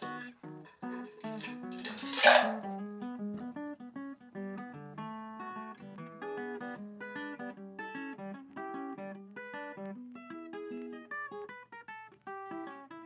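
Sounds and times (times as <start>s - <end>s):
plucked acoustic guitar melody: 0.0s - 13.0s.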